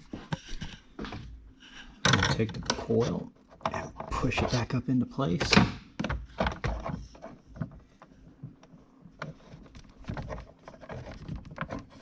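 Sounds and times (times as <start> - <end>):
plastic parts clicking and knocking: 1.9 - 12.0.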